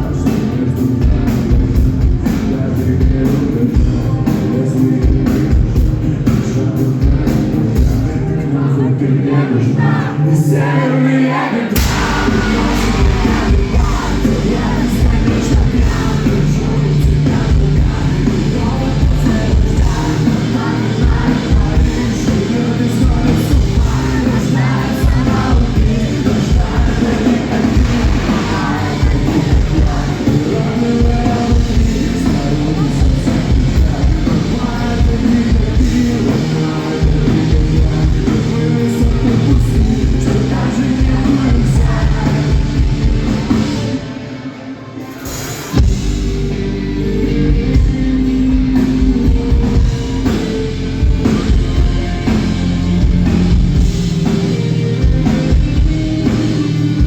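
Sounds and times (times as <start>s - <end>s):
live rock band: 0.0s - 57.0s
person singing: 0.0s - 57.0s.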